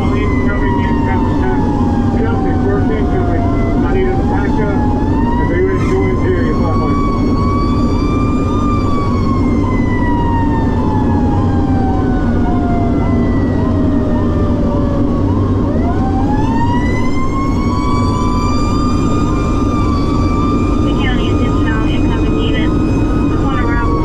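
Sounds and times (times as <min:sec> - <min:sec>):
fast sweeping siren: 0:00.0 - 0:24.0
fire engine siren sliding: 0:00.0 - 0:24.0
truck engine droning: 0:00.0 - 0:24.0.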